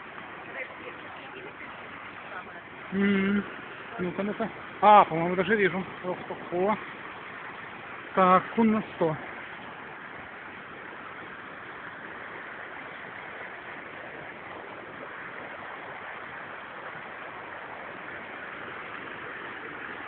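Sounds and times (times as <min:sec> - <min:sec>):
river cascades rushing: 0:00.0 - 0:20.0.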